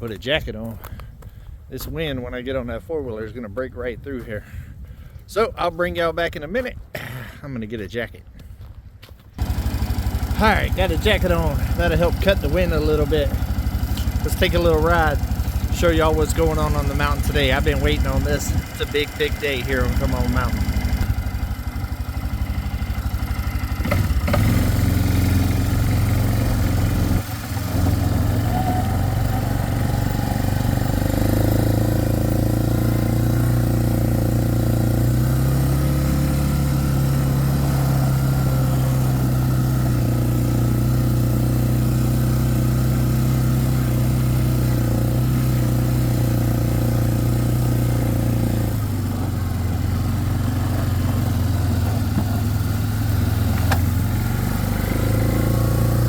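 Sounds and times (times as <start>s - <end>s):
atv engine running: 9.4s - 56.0s.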